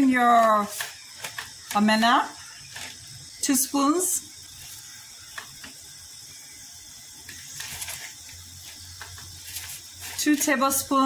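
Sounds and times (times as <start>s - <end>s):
sauce sizzling in frying pan: 0.0s - 11.0s.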